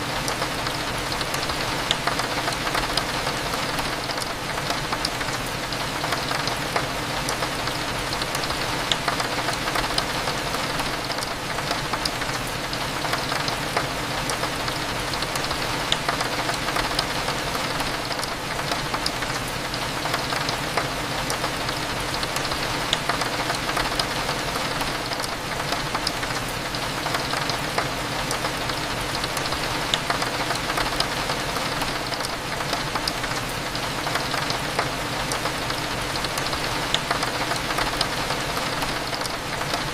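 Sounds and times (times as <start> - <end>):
rain drops tapping on a window: 0.0 - 39.9.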